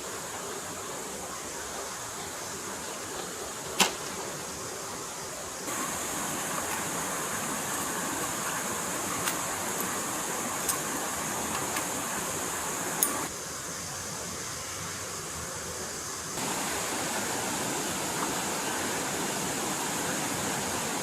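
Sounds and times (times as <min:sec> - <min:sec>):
flowing stream: 0:00.0 - 0:21.0.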